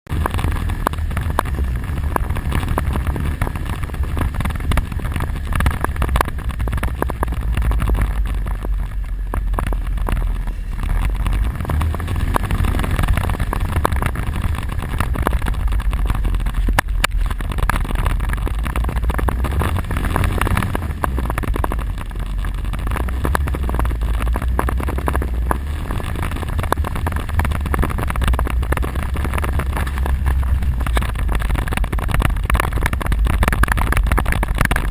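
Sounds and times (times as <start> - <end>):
quad bike engine rumbling: 0.0 - 34.9.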